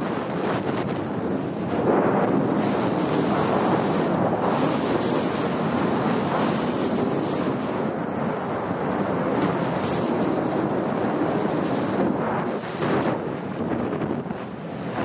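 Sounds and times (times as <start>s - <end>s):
skis scraping over snow: 0.0s - 14.2s
wind on microphone: 0.0s - 15.0s.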